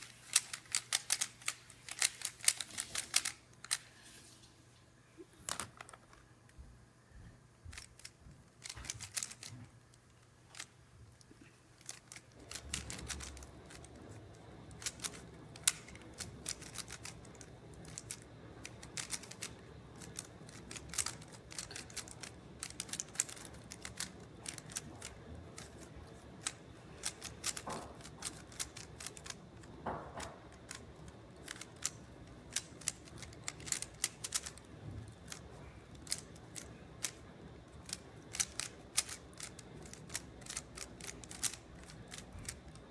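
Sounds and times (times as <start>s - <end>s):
puzzle cube clicking: 0.0s - 3.8s, 7.7s - 10.7s, 11.8s - 14.0s, 14.6s - 42.8s.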